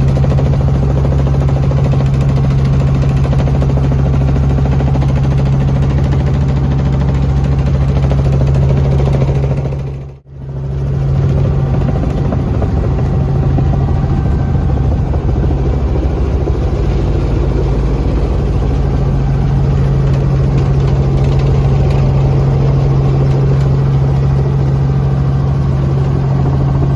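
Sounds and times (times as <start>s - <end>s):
helicopter engine and rotor drone: 0.0s - 26.9s.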